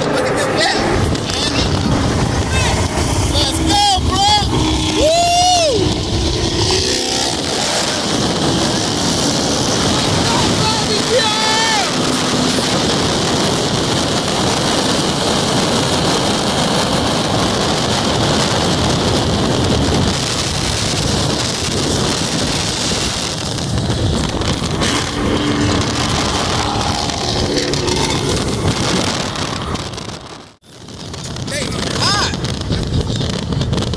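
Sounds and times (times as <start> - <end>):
road and car noise: 0.0 - 33.9
wind rush on a microphone: 0.8 - 33.9.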